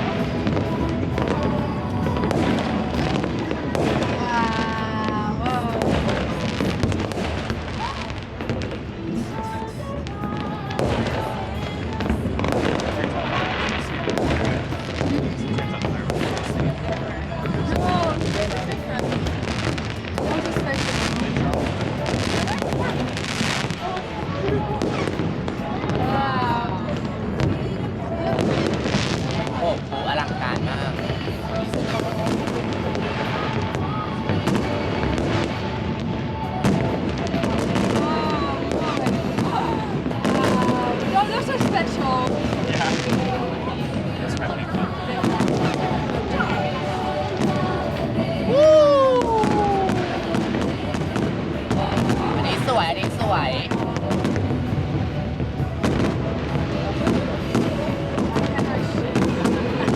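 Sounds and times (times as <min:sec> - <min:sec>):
crowd voices: 0:00.0 - 0:59.9
fireworks bangs and crackles: 0:00.0 - 0:59.9
music: 0:00.0 - 0:59.9.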